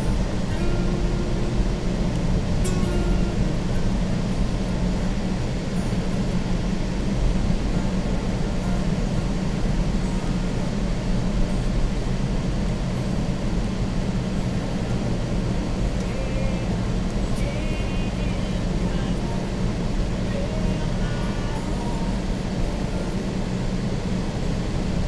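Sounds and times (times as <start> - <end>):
car engine drone: 0.0 - 25.0
tyres on road: 0.0 - 25.0.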